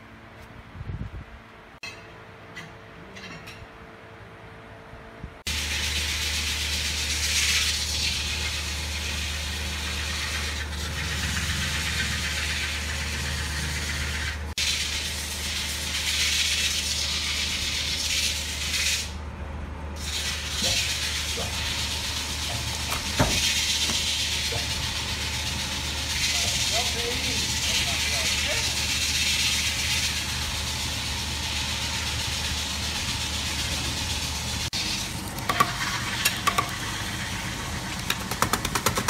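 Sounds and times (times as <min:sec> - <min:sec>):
woodworking machinery running: 0:05.5 - 0:18.8, 0:20.0 - 0:39.0.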